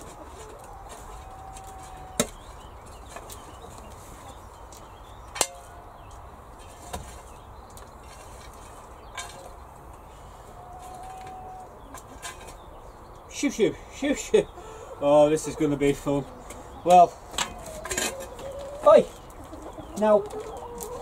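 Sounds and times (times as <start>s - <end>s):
hens calling: 0.0s - 7.6s, 8.6s - 21.0s.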